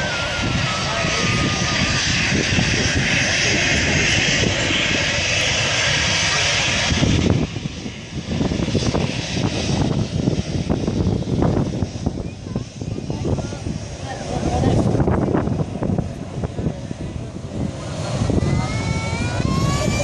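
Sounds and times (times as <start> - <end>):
distant jet engines rushing: 0.0 - 20.0
wind buffeting microphone: 0.0 - 20.0.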